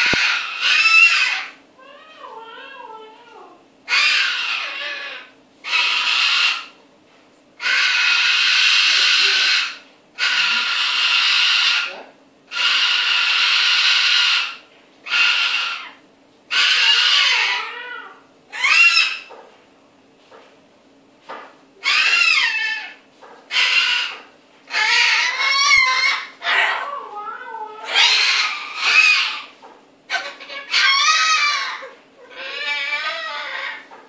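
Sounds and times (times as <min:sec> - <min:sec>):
cockatoo screeching: 0:00.0 - 0:06.8, 0:07.6 - 0:19.3, 0:21.8 - 0:34.0.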